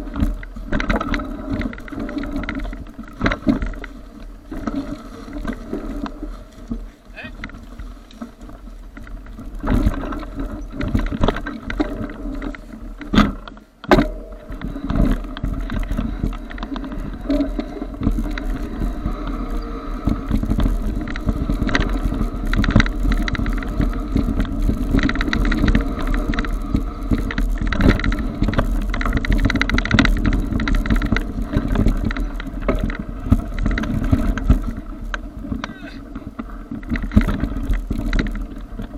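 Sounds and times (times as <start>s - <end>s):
bike rattling over bumps: 0.0s - 38.9s
bike tyres rolling on dirt: 0.0s - 38.9s.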